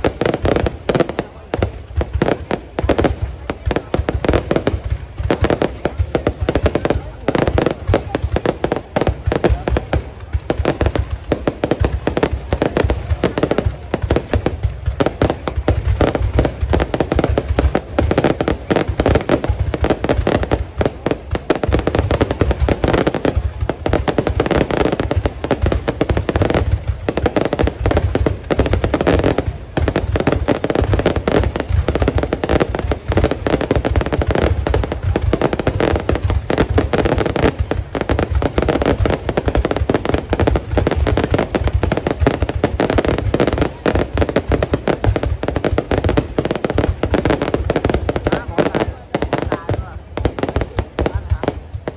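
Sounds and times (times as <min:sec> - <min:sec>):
fireworks bursts and bangs: 0:00.0 - 0:51.9.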